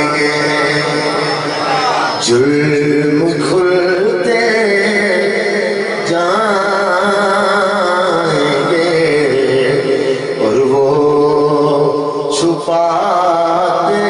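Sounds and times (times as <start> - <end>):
man chanting into a microphone: 0.0 - 14.0.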